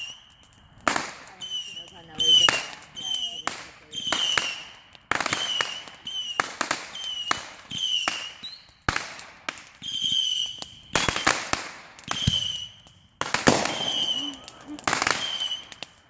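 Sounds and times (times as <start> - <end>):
fireworks bangs: 0.0 - 16.0
fireworks whistling: 0.0 - 16.0.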